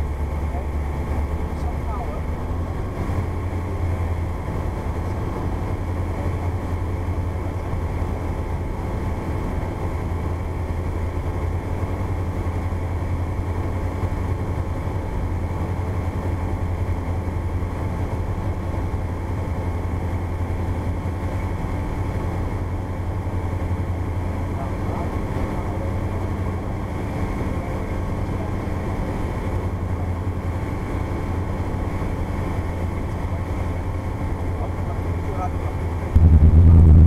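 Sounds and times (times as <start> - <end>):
airplane engine drone from cabin: 0.0 - 37.0.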